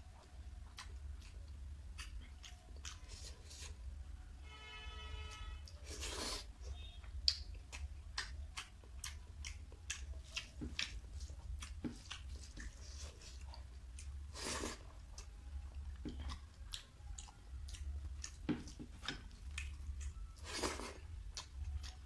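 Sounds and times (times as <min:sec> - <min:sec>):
person chewing food: 0:00.0 - 0:04.0, 0:05.2 - 0:22.0
steady low hum: 0:00.0 - 0:22.0.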